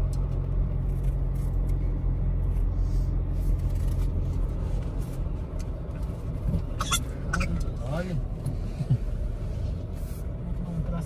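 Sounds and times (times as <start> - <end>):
engine and road noise in cab: 0.0 - 11.0.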